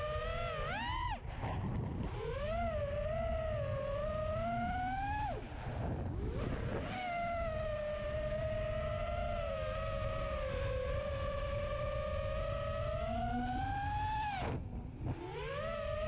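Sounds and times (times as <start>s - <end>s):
quadcopter motors whining: 0.0s - 16.0s
wind rumbling on microphone: 0.0s - 16.0s.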